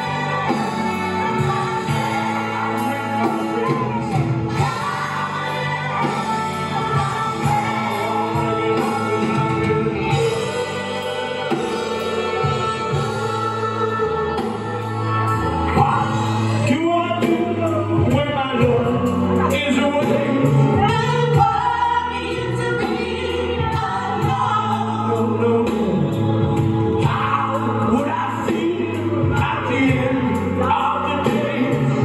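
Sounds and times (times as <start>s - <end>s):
female backing vocals: 0.0s - 16.7s, 19.1s - 32.0s
bass guitar: 0.0s - 32.0s
drums: 0.0s - 32.0s
electric guitar: 0.0s - 32.0s
lead vocals: 0.0s - 32.0s
live blues band playing: 0.0s - 32.0s.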